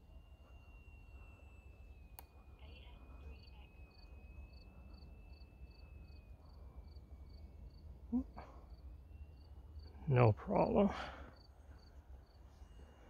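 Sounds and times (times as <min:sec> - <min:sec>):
cricket chirping: 0:00.0 - 0:12.9
faint electric motor whine: 0:00.0 - 0:13.0.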